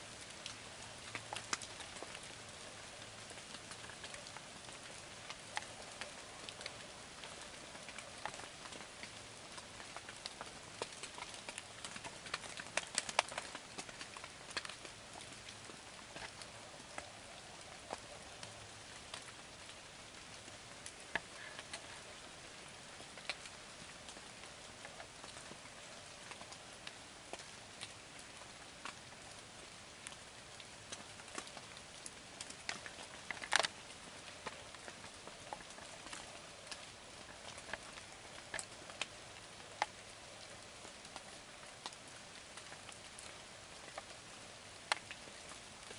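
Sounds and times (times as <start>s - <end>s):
light rain: 0.0s - 45.9s
raindrops ticking: 0.0s - 45.9s.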